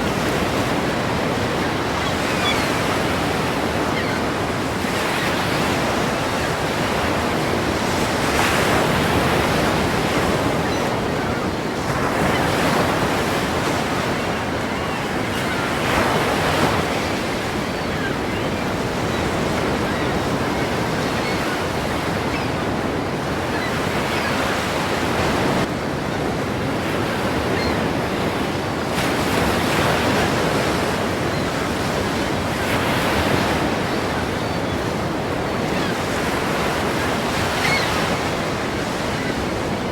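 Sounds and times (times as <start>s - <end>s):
ocean waves crashing: 0.0s - 39.9s.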